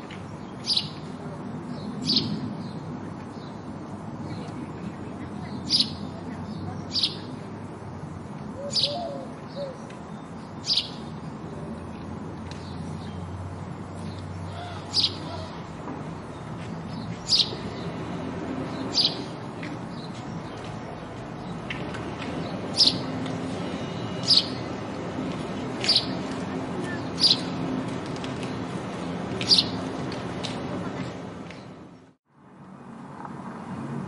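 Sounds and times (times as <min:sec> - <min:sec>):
house sparrow chirping: 0:00.3 - 0:30.0.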